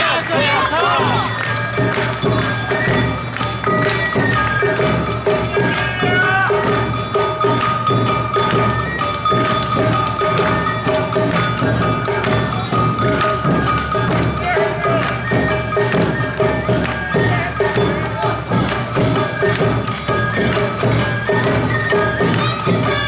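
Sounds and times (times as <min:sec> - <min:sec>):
drums: 0:00.0 - 0:23.0.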